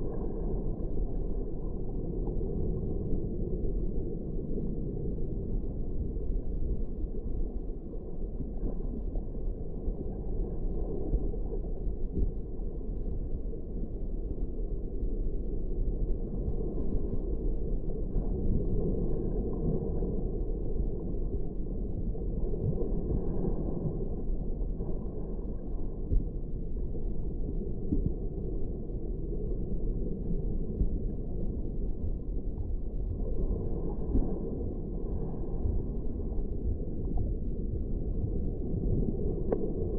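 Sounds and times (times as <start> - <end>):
underwater rumble of seawater: 0.0 - 39.9.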